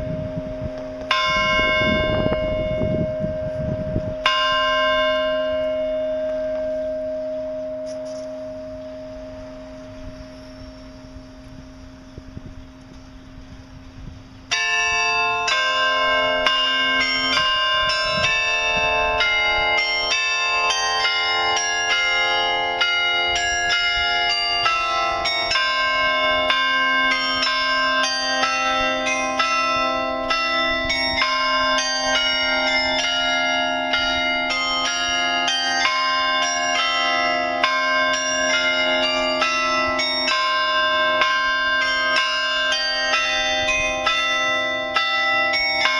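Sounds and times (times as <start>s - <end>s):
carillon bells playing a tune: 0.0s - 45.9s.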